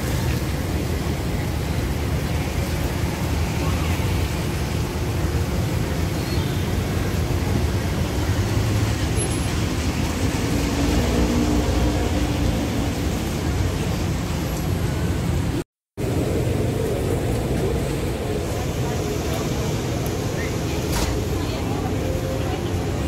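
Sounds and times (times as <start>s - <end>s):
low rumble of road traffic: 0.0s - 23.0s.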